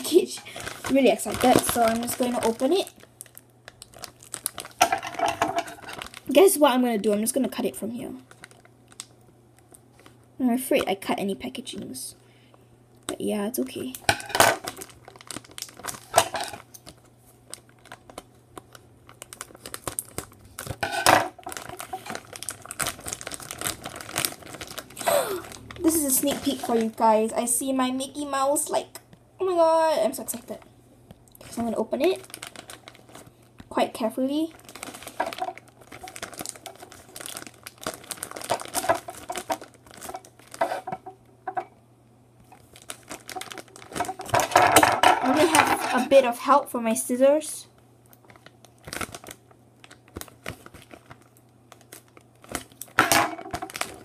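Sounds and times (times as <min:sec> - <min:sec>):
plastic bag crinkling and tearing: 0:00.0 - 0:10.9, 0:13.8 - 0:28.4, 0:31.4 - 0:41.1, 0:42.4 - 0:46.3, 0:48.1 - 0:54.0.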